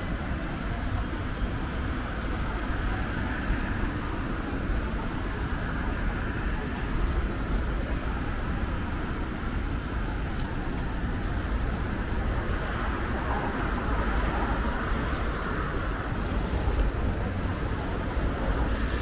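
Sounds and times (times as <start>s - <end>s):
indistinct crowd noise: 0.0s - 19.0s
traffic hum: 0.0s - 19.0s.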